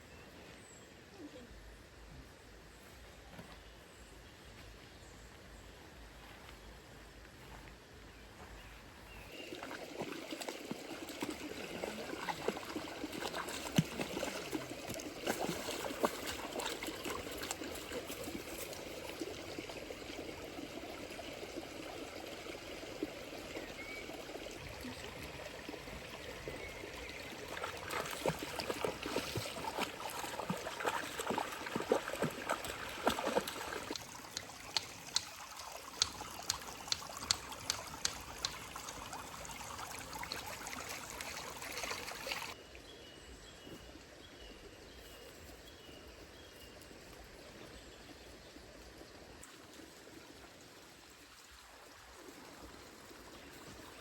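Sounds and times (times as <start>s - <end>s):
water trickling and splashing: 8.5s - 42.9s, 43.6s - 54.0s.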